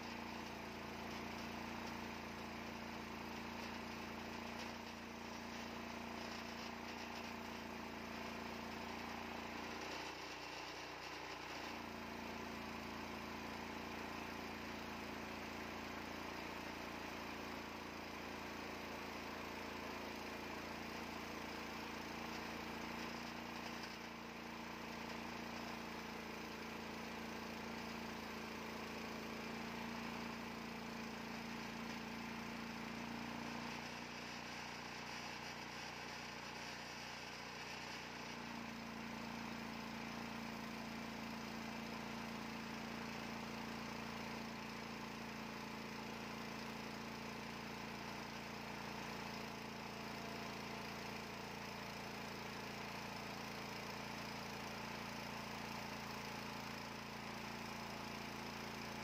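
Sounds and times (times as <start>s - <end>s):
bandsaw mill sawing log: 0.0s - 59.0s.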